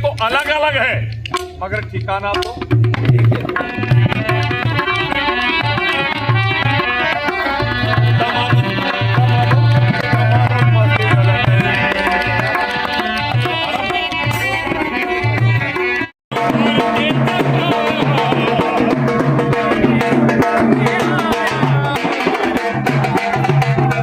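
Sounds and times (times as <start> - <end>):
hand drum strokes: 1.3 - 24.0.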